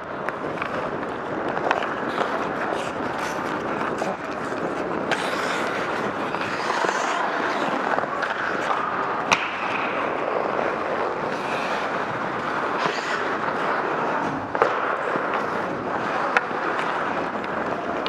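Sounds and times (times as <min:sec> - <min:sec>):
skates scraping on ice: 0:00.0 - 0:18.0.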